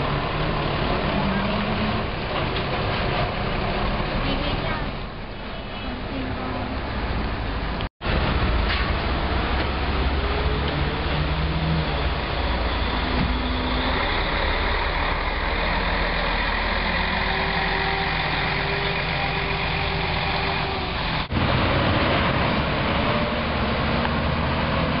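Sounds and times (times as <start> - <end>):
bus diesel engine running: 0.0 - 25.0
street traffic: 0.0 - 25.0.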